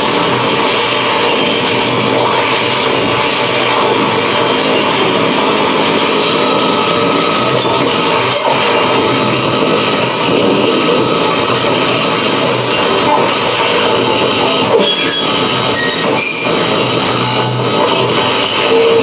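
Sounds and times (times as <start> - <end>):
harsh electronic noise music: 0.0 - 19.0.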